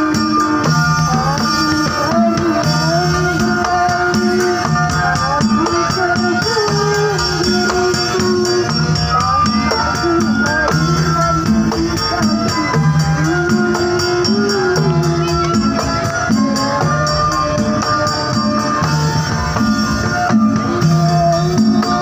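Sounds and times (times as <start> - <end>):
drums: 0.0 - 22.0
electric keyboard melody: 0.0 - 22.0
jingling tambourine percussion: 0.0 - 22.0.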